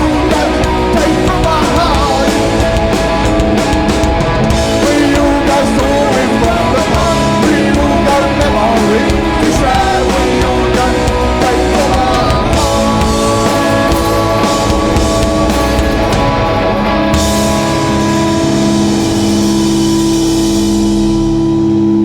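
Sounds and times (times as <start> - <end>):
distorted electric guitars: 0.0 - 22.0
drums: 0.0 - 22.0.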